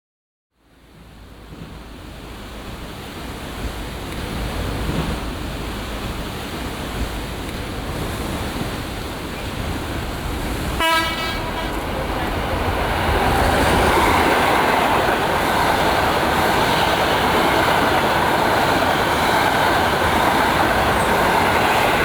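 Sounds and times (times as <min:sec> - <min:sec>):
waves breaking against sea wall: 0:00.9 - 0:22.0
wind noise on microphone: 0:00.9 - 0:22.0.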